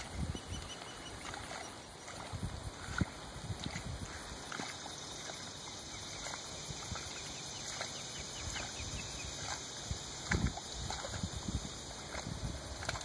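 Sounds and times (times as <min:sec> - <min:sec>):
soft ticks and chirps: 0:00.0 - 0:13.0.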